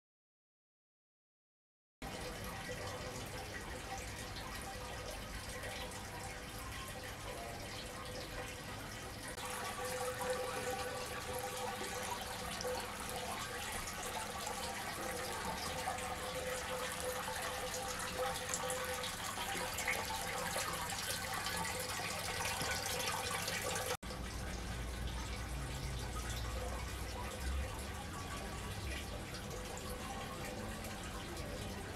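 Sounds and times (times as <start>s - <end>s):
fountain water trickling and splashing: 2.0s - 31.9s.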